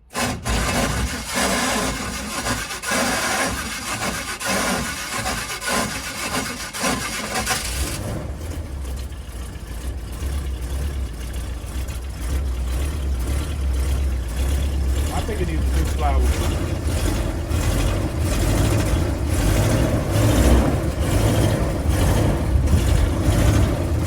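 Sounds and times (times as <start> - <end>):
engine idling: 0.0 - 24.0
starter cranking engine: 0.0 - 24.0.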